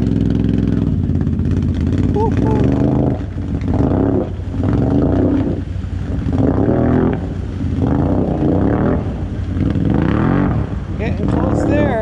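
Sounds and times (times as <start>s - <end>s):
atv engines revving: 0.0s - 12.0s.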